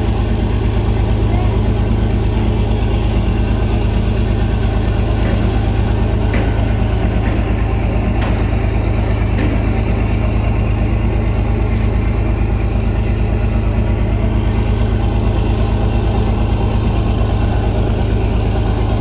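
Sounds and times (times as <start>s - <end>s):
heavy engine idling: 0.0s - 19.0s.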